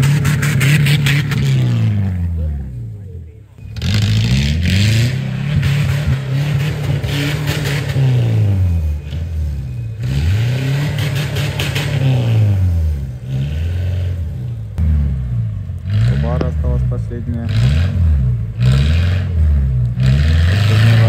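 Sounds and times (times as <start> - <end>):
engine revving: 0.0 - 3.0, 3.6 - 21.0.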